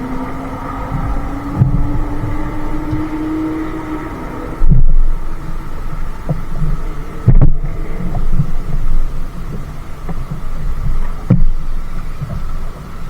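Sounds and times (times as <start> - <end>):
faint steady hum: 0.0 - 13.0
low thumps and rumbling: 0.0 - 13.0.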